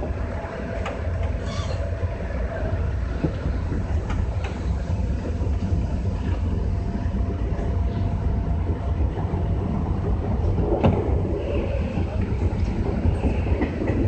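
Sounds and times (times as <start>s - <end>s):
rail joint clicks: 0.0s - 14.0s
train wheels rumbling on rail: 0.0s - 14.0s.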